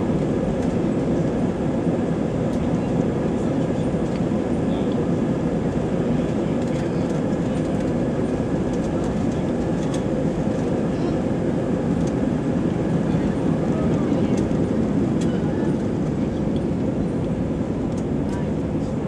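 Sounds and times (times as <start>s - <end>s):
jet engines humming: 0.0s - 19.0s.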